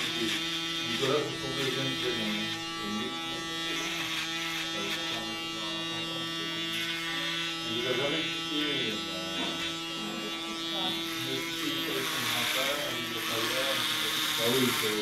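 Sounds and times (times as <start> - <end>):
electric hair clipper buzzing: 0.0 - 15.0
faint voices: 0.0 - 15.0.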